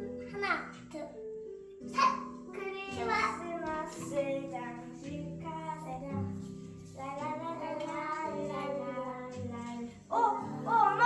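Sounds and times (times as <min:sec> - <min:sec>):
background music with low notes: 0:00.0 - 0:11.0
child singing: 0:02.0 - 0:11.0.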